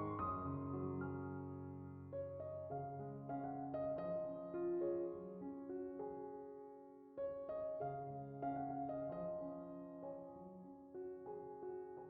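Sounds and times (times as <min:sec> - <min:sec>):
soft piano notes: 0:00.0 - 0:12.0.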